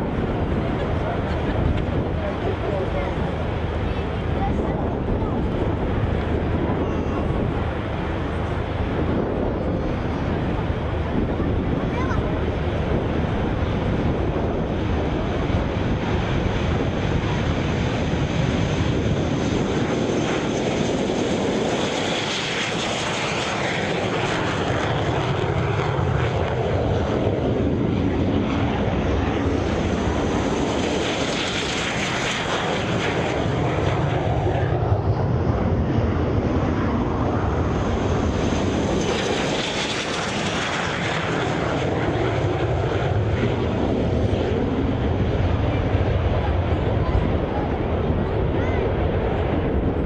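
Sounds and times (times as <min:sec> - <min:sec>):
aircraft engine roar: 0:00.0 - 0:50.0.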